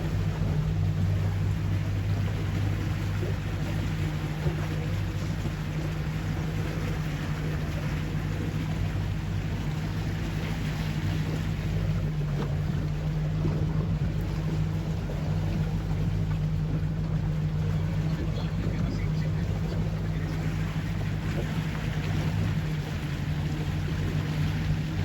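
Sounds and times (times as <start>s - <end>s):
boat motor humming: 0.0s - 25.0s
water and wind rushing: 0.0s - 25.0s.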